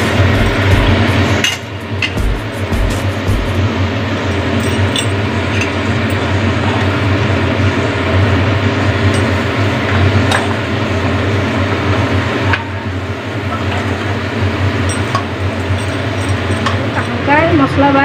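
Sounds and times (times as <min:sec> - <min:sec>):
steady hum and hiss: 0:00.0 - 0:18.0.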